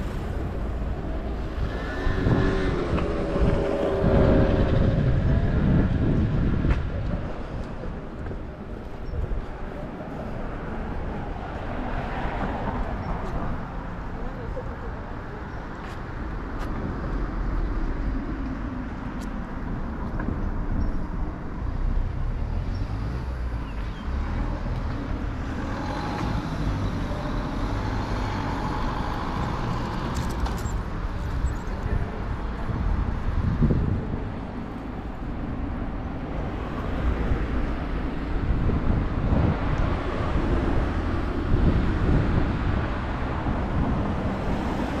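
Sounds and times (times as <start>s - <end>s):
rumble of passing cars: 0.0s - 45.0s.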